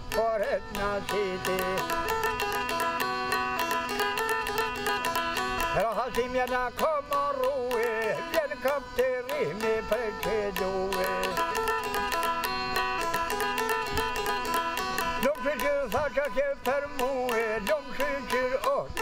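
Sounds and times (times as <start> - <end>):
man singing ornamented melody: 0.0 - 19.0
plucked lute with drone: 0.0 - 19.0.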